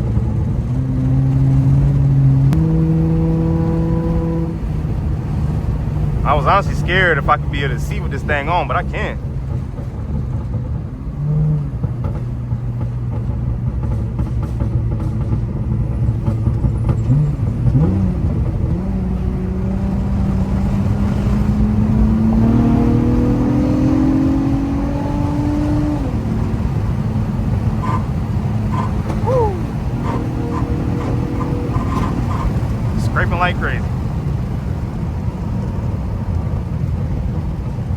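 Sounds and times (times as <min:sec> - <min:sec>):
car engine droning: 0:00.0 - 0:37.9
road rumble: 0:00.0 - 0:37.9.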